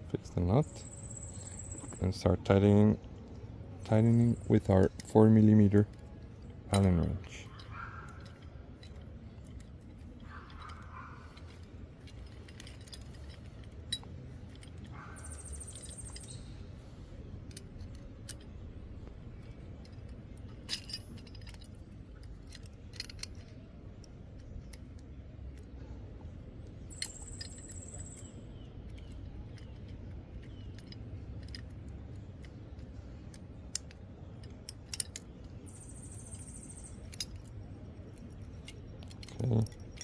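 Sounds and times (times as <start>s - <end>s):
low background hum: 0.0s - 40.0s
metal wrench clicks and clinks: 0.6s - 16.7s, 17.3s - 26.0s, 26.6s - 40.0s.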